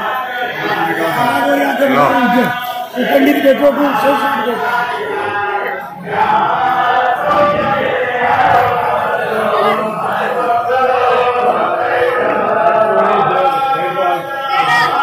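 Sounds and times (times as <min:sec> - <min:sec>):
group of voices chanting: 0:00.0 - 0:15.0.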